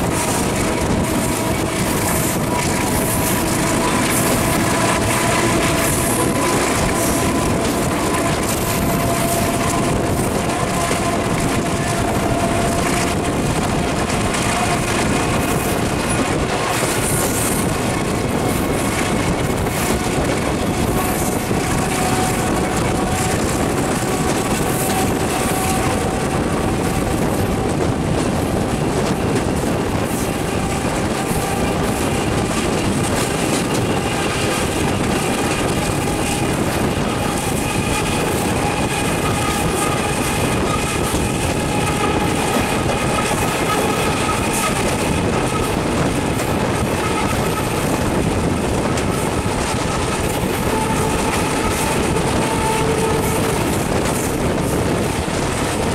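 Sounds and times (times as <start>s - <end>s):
diesel locomotive engine: 0.0s - 55.9s.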